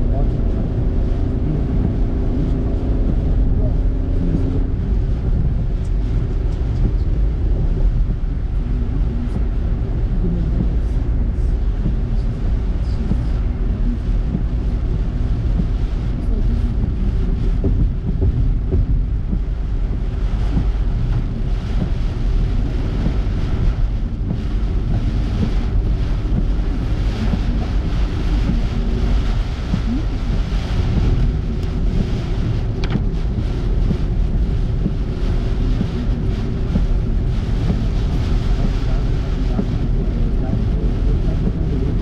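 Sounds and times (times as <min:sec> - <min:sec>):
car road and engine rumble: 0:00.0 - 0:42.0
wind buffeting microphone: 0:00.0 - 0:42.0.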